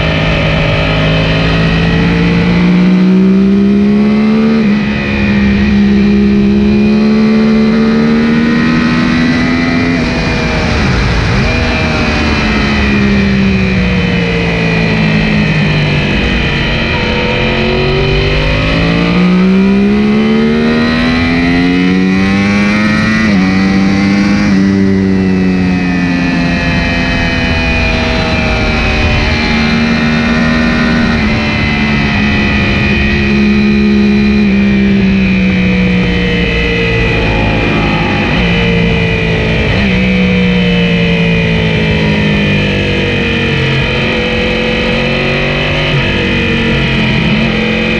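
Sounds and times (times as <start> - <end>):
motorcycle engine accelerating: 0.0 - 47.9
wind rush: 8.1 - 47.9.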